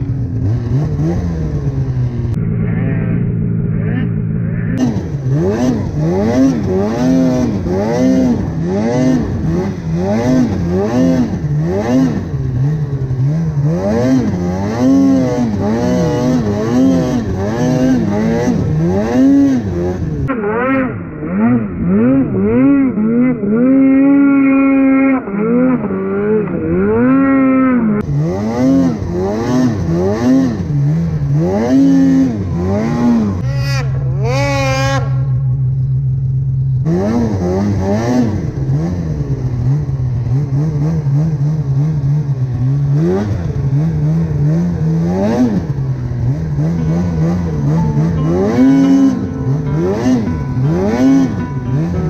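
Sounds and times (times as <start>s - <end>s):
snowmobile engine revving: 0.0s - 36.1s, 36.8s - 52.0s.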